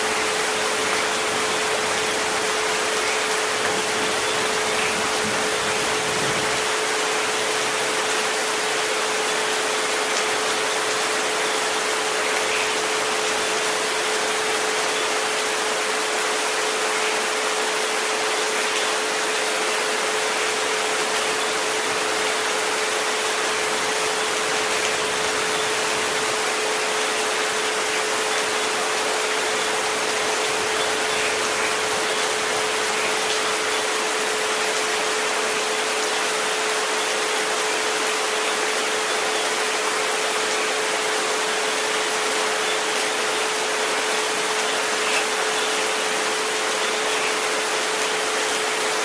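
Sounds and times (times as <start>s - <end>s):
steady rain hiss: 0.0s - 49.0s.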